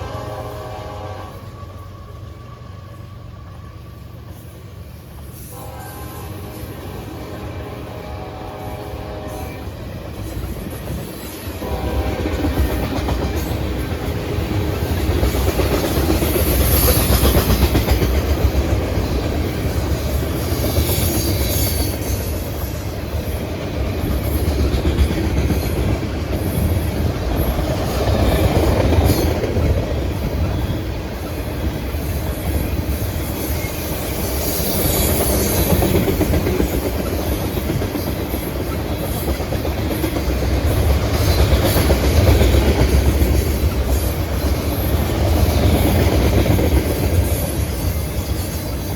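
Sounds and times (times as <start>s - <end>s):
train wheels rumbling on rail: 0.0s - 48.9s
clickety-clack over rail joints: 9.2s - 48.9s.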